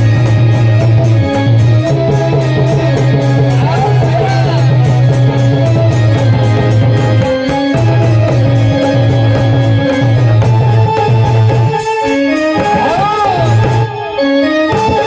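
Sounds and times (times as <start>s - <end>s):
folk devotional instrumental music: 0.0s - 15.0s.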